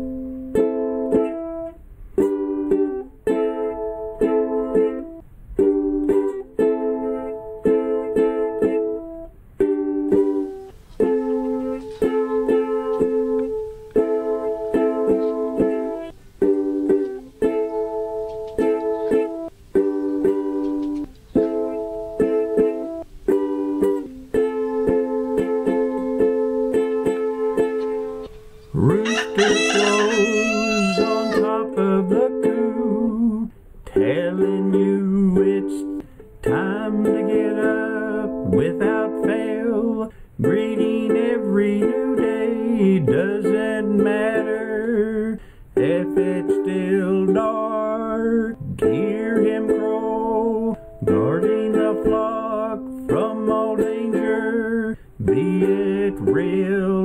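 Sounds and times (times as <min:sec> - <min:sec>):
ukulele strumming chords: 0:00.0 - 0:57.0.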